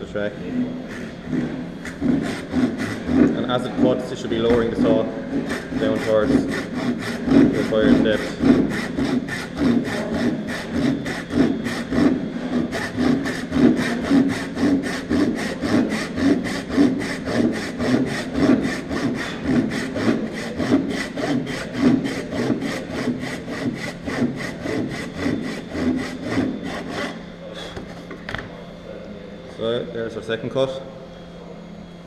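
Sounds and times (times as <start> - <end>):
hand saw cutting wood: 0.9 - 27.2.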